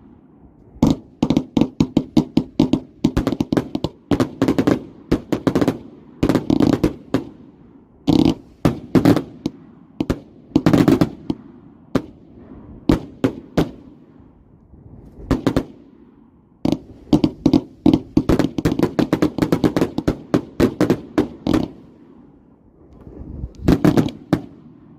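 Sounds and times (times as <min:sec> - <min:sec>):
firework bangs: 0:00.8 - 0:07.4, 0:08.1 - 0:14.2, 0:15.1 - 0:22.2, 0:23.0 - 0:24.9.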